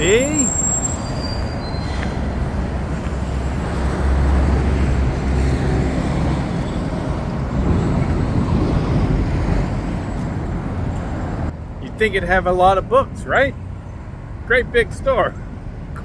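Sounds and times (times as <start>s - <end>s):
rumble of passing vehicles: 0.0s - 16.0s.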